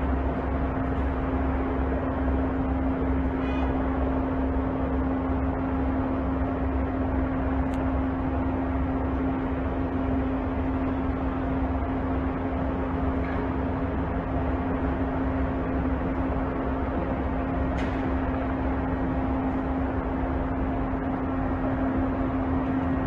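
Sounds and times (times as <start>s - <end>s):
mid-pitched hum: 0.0s - 23.0s
ship diesel engines rumbling: 0.0s - 23.0s.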